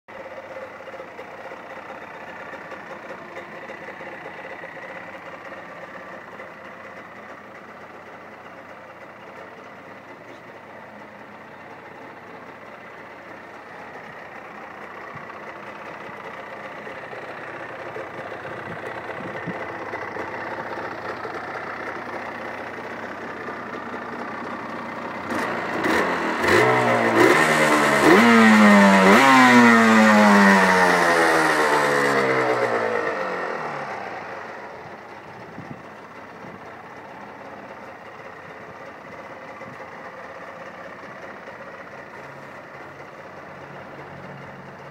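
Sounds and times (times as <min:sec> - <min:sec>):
motorcycle engine idling and revving: 0:00.1 - 0:44.9.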